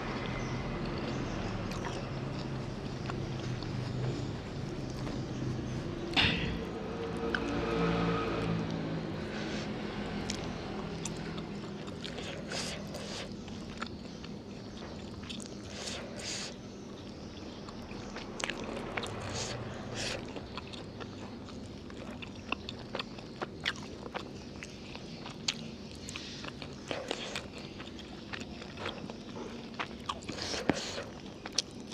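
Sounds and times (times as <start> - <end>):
person chewing food: 0.2 - 6.6, 9.2 - 31.9.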